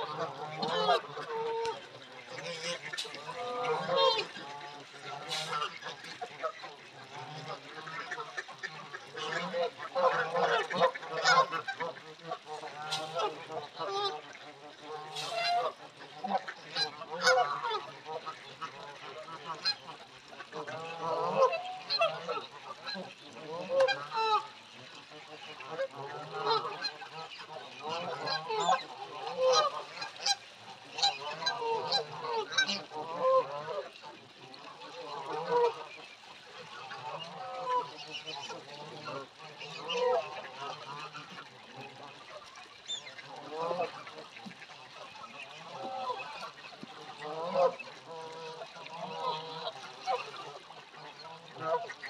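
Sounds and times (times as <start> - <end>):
geese honking: 0.0 - 52.0.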